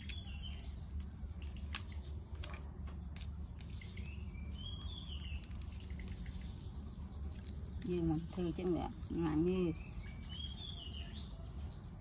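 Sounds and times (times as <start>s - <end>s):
bird chirps: 0.0s - 2.2s, 3.2s - 12.0s.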